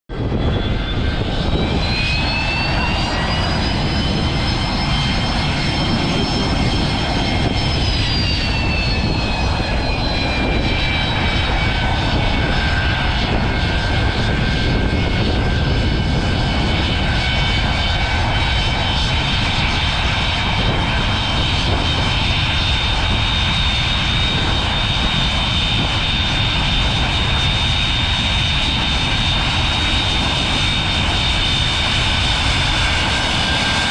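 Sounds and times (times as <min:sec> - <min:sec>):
jet engines rumbling and whining: 0:00.1 - 0:33.9.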